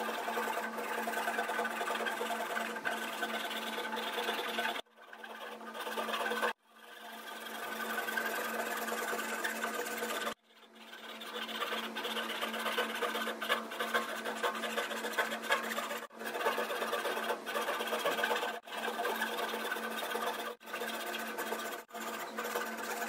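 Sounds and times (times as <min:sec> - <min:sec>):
pull saw rasping through wood: 0:00.0 - 0:23.0.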